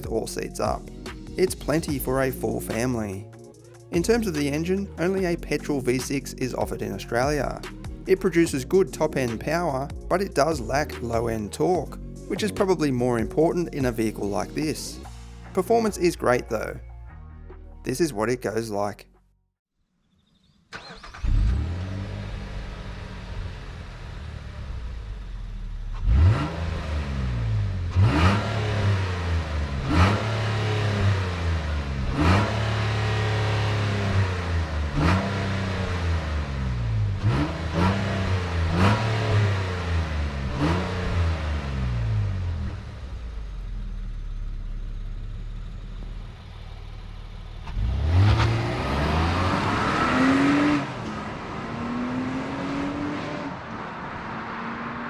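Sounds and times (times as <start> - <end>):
car engine accelerating: 0.0 - 15.9, 20.8 - 55.0.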